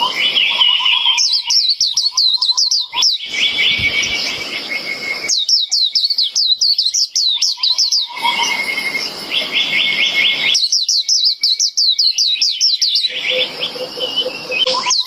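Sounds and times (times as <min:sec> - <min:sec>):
bird singing down-slurred notes: 0:00.0 - 0:15.0
bird trill: 0:00.0 - 0:15.0.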